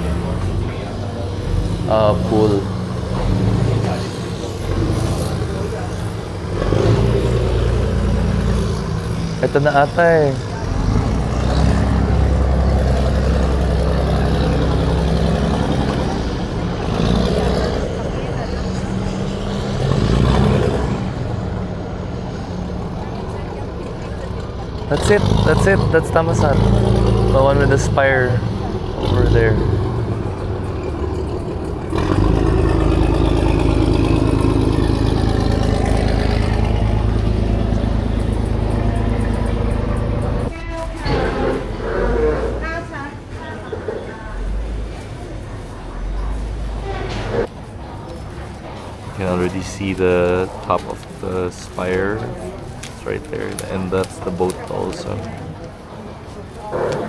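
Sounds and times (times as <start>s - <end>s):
ferry engine humming: 0.0s - 57.0s.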